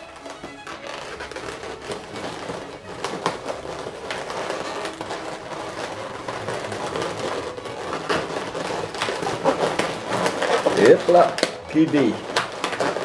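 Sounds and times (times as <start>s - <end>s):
balloons rubbing and squeaking: 0.0s - 13.0s.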